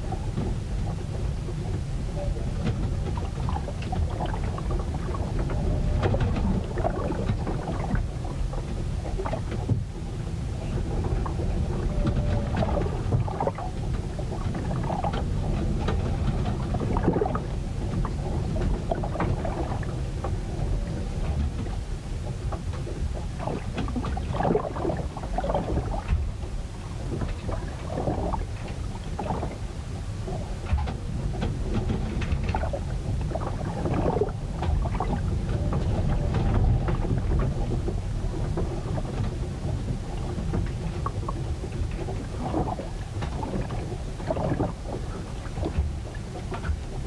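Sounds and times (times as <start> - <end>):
waves sloshing and splashing: 0.0 - 47.0
wind and rough water rumble: 0.0 - 47.0.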